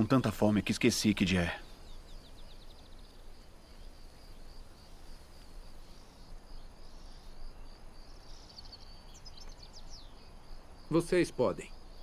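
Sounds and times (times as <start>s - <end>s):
crickets chirring: 0.0s - 12.0s
low background hiss: 0.0s - 12.0s.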